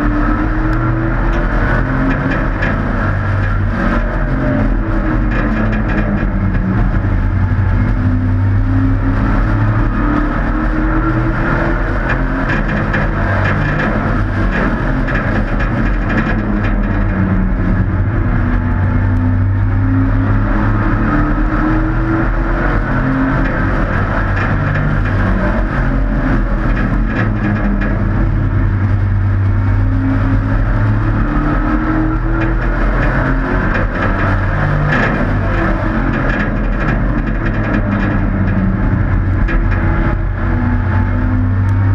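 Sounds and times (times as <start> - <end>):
race truck engines: 0.0 - 41.9.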